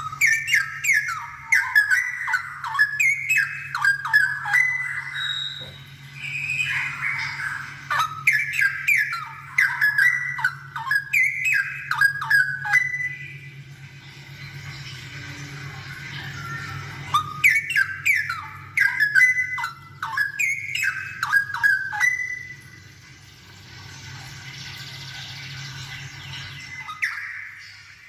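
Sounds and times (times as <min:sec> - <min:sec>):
bird singing: 0:00.0 - 0:23.0, 0:24.6 - 0:28.0
steady low hum: 0:00.0 - 0:28.0.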